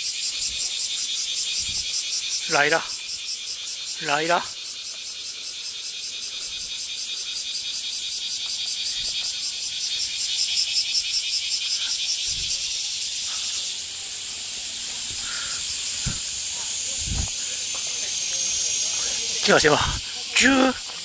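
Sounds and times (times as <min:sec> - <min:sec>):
cicadas buzzing in pulses: 0:00.0 - 0:21.0
steady high hiss: 0:00.0 - 0:21.0.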